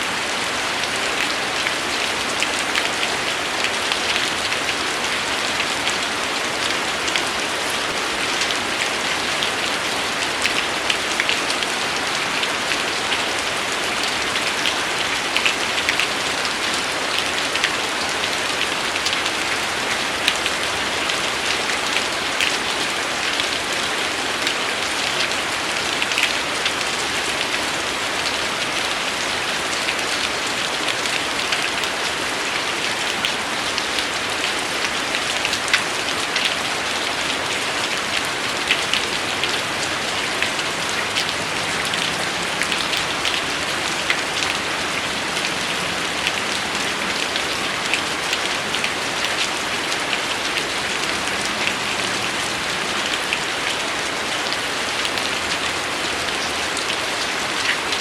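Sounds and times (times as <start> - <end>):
raindrops ticking on a surface: 0.0 - 58.0
steady rain falling: 0.0 - 58.0.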